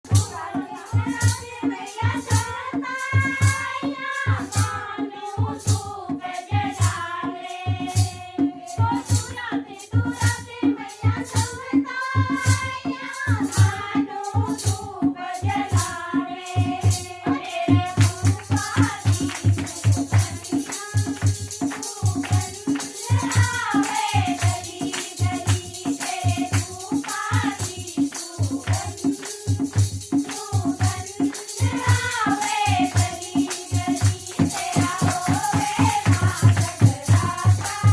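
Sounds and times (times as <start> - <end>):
jingling percussion: 0.0 - 37.9
fast drum beat: 0.1 - 37.9.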